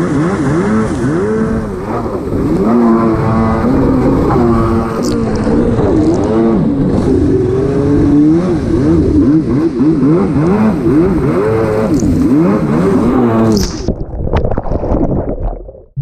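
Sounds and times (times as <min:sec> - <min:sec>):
jet ski engine revving: 0:00.0 - 0:13.7.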